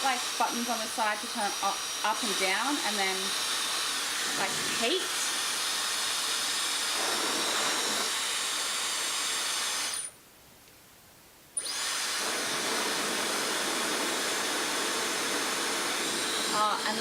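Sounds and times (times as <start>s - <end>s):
hair dryer blowing: 0.0s - 10.2s, 11.6s - 17.0s.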